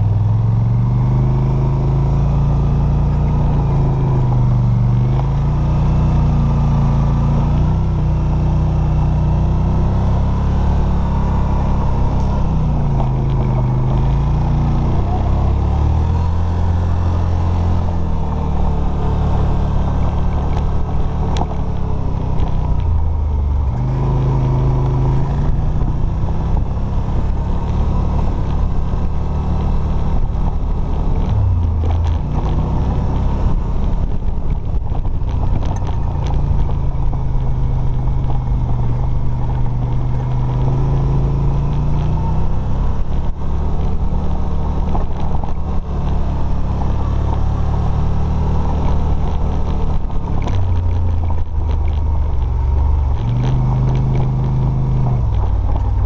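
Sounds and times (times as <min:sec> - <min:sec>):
off-road vehicle engine driving: 0:00.0 - 0:56.0.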